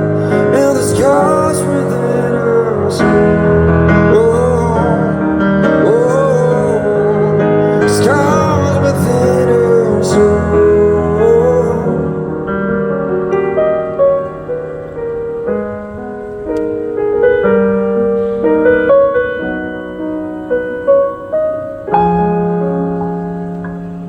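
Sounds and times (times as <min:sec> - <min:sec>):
piano playing slow melody: 0:00.0 - 0:24.0.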